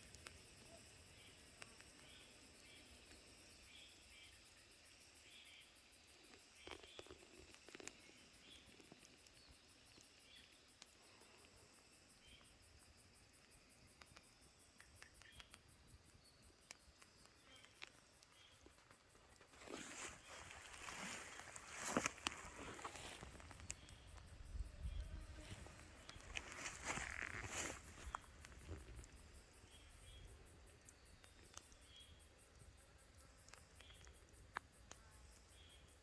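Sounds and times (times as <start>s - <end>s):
faint chirps: 0.0s - 36.0s
high-pitched insect trill: 0.0s - 36.0s.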